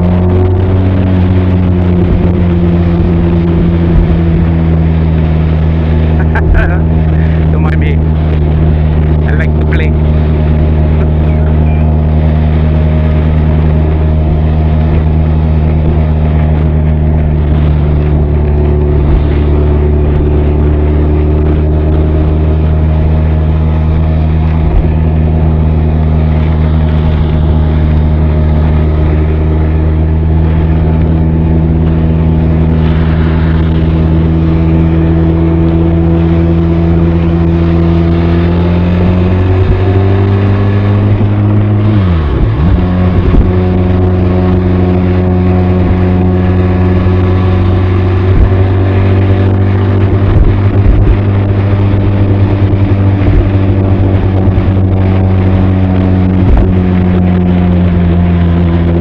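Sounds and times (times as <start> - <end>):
motorcycle engine and exhaust cruising: 0.0 - 59.0.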